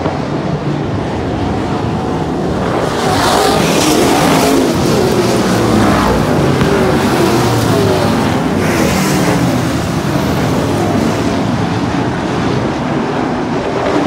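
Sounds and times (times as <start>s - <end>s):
race car engines roaring: 0.0s - 14.0s
race car passing close: 0.1s - 14.0s.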